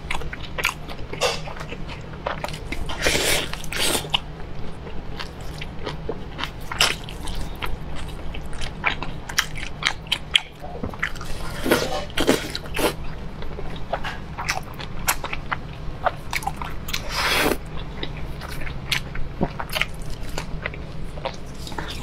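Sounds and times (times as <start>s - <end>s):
biting and wet chewing: 0.0s - 22.0s.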